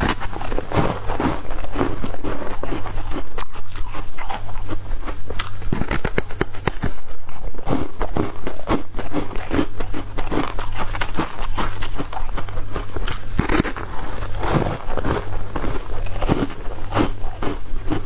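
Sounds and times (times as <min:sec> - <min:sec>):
crunching ice with teeth: 0:00.0 - 0:18.0.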